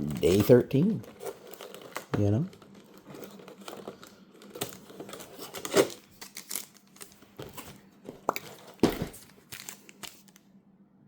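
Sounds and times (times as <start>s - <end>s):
cardboard tearing and crinkling: 0.0s - 10.4s.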